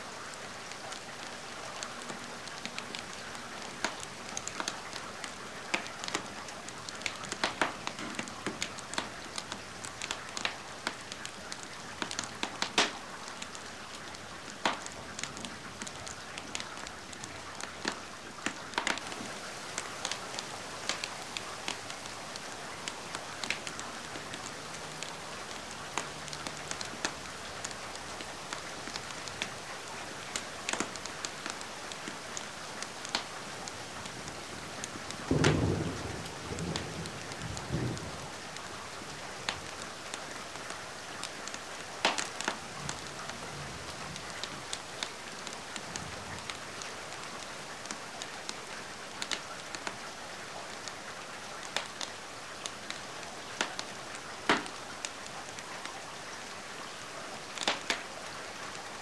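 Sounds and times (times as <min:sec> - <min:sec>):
steady rain: 0:00.0 - 0:59.0
wood fire crackling: 0:00.3 - 0:50.1, 0:50.7 - 0:56.2, 0:57.4 - 0:59.0.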